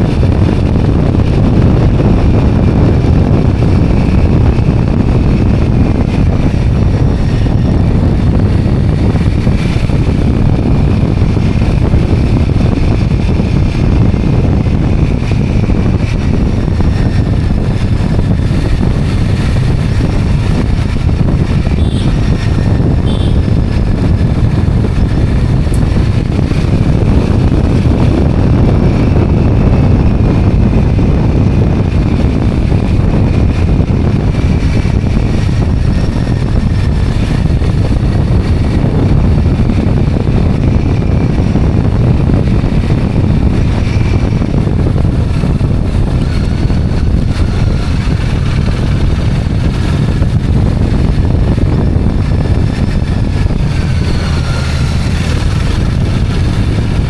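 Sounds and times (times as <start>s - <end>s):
motorbike engine: 0.0s - 57.0s
road noise: 0.0s - 57.0s
wind buffeting microphone: 0.0s - 57.0s.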